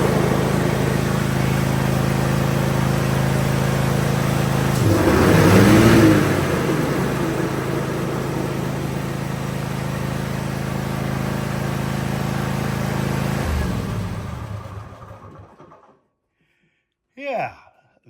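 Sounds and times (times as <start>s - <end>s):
riding mower engine running: 0.0s - 15.9s.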